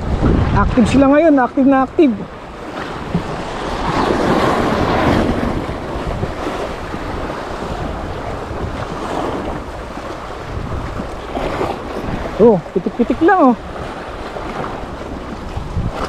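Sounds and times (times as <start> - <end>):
sea waves washing in: 0.0 - 16.0
wind noise on microphone: 0.0 - 16.0.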